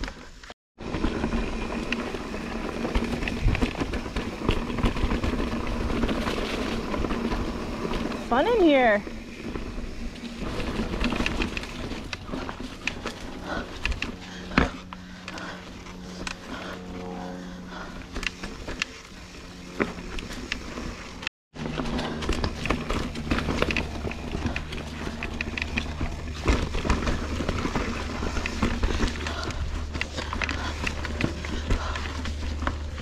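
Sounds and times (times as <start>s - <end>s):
steady low hum: 0.1s - 33.0s
bike knocks and rattles: 0.8s - 16.6s, 19.7s - 33.0s
tyres crunching over dirt: 0.8s - 16.8s, 17.7s - 33.0s.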